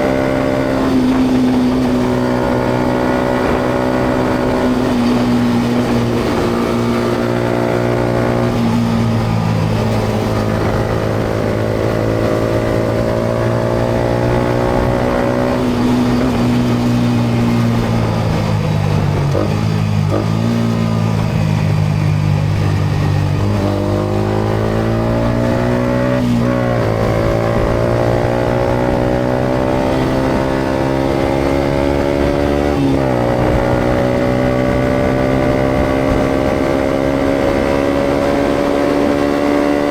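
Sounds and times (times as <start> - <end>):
motorcycle engine accelerating: 0.0 - 39.9
road noise: 0.0 - 39.9.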